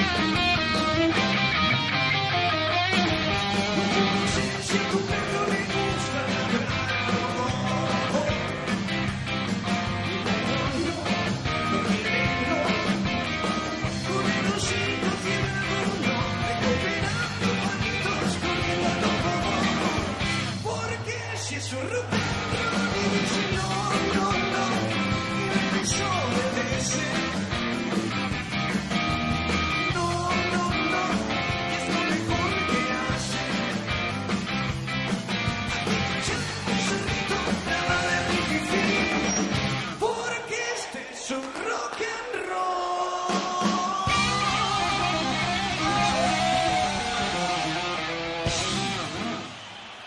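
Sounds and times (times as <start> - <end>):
rock band playing live: 0.0 - 50.0.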